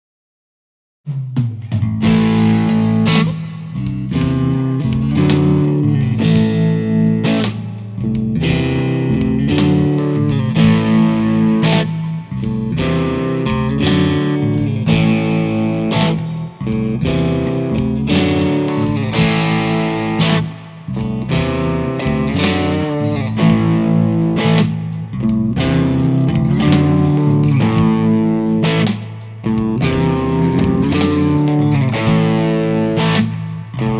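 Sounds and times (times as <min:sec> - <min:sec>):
overdriven electric guitar chords: 0:01.7 - 0:33.9.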